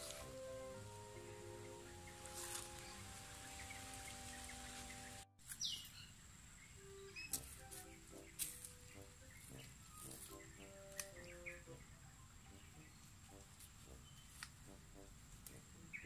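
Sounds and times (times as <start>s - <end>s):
soft background music: 0.0s - 5.4s, 6.8s - 16.0s
birds chirping: 0.0s - 16.0s.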